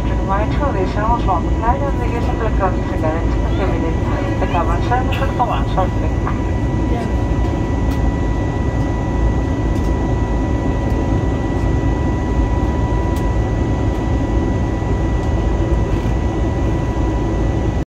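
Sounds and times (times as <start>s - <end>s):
aircraft cabin engine rumble: 0.0s - 17.8s.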